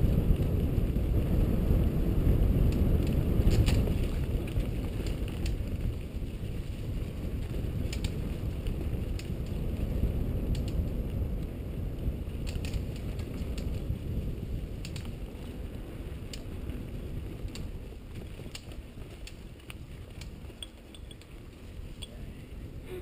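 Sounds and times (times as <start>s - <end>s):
bike tyres rumbling on dirt: 0.0s - 22.8s
bike clicks and rattles: 2.2s - 22.3s.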